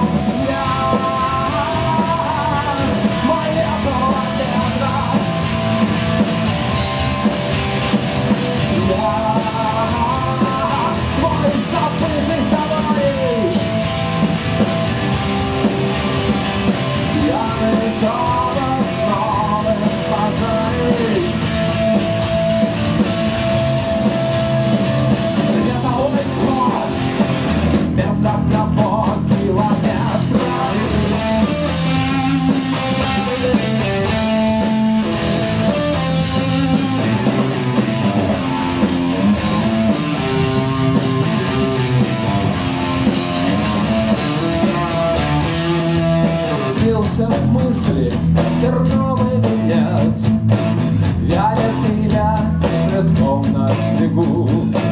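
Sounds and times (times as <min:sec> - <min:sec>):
electric guitar lead line: 0:00.0 - 0:54.9
live rock band playing: 0:00.0 - 0:54.9.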